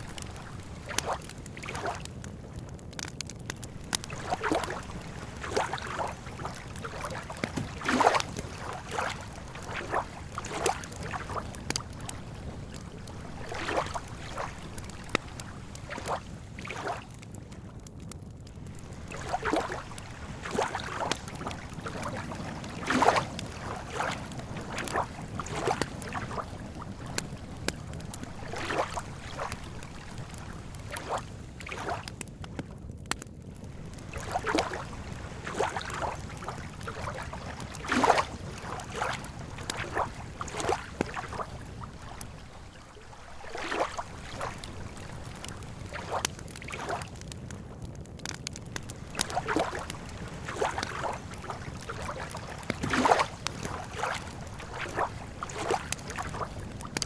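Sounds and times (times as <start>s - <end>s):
lake waves lapping at shore: 0.0s - 17.6s, 18.6s - 32.3s, 33.5s - 47.3s, 48.2s - 57.0s.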